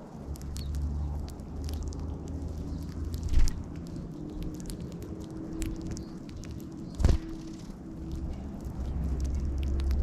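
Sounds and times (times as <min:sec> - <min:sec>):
birds pecking seed: 0:00.0 - 0:10.0.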